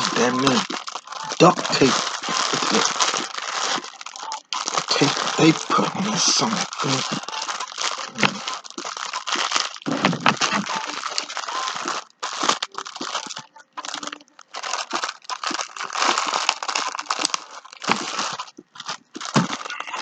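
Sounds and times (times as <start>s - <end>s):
plastic wrapping crinkling: 0.0s - 20.0s.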